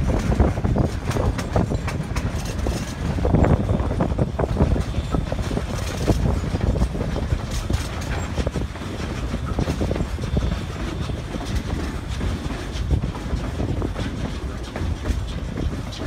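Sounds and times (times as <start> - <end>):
train rumbling: 0.0 - 16.0
wheels clacking on rails: 0.0 - 16.0.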